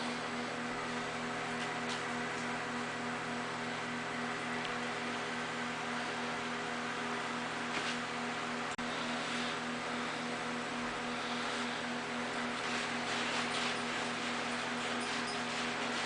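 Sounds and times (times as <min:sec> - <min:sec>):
electrical hum with hiss: 0:00.0 - 0:16.0.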